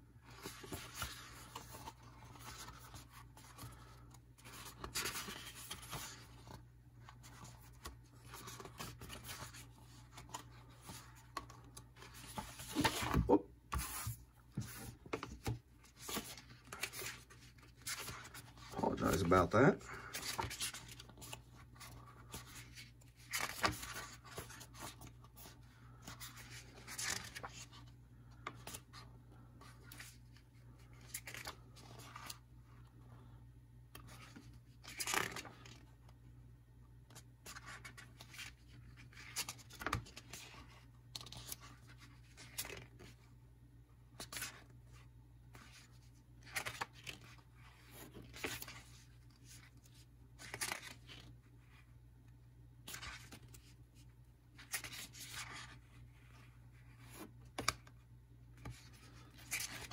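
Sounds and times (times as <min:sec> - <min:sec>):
booklet pages turning: 0:00.2 - 0:33.0, 0:33.9 - 0:36.2, 0:37.1 - 0:43.3, 0:44.1 - 0:51.9, 0:52.8 - 0:59.9.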